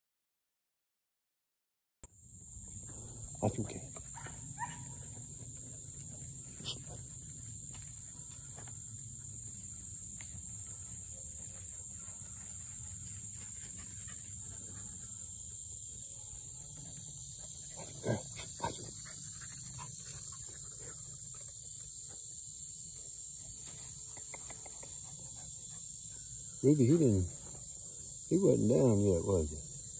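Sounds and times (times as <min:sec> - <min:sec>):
insects droning: 0:02.1 - 0:29.9.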